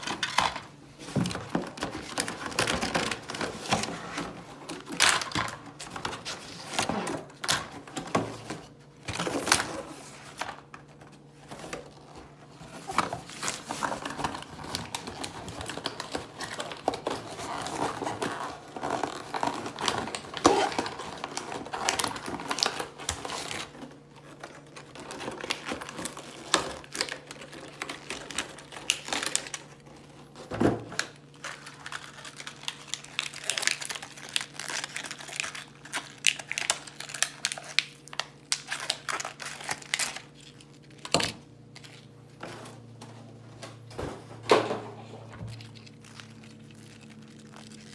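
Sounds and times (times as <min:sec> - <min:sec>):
packaging being opened: 0:00.0 - 0:47.9.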